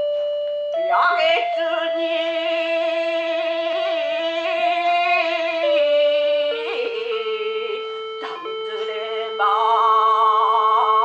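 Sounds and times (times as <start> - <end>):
steady held accompaniment tone: 0.0 - 11.0
woman chanting poetry: 0.9 - 11.0.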